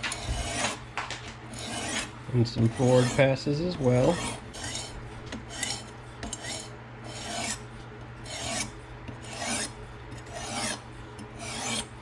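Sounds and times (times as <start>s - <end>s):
sharpening stone rasping on knife: 1.5s - 11.9s.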